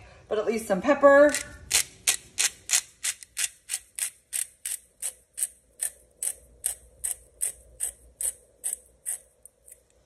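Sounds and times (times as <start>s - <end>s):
pepper grinder clicking: 1.3s - 10.0s.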